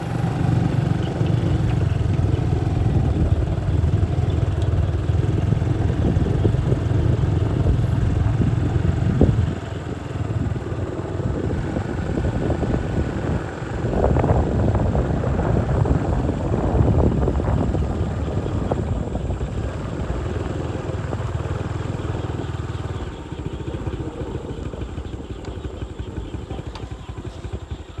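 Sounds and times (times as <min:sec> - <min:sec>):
wind rushing over microphone: 0:00.0 - 0:27.7
motorcycle engine running: 0:00.0 - 0:28.0.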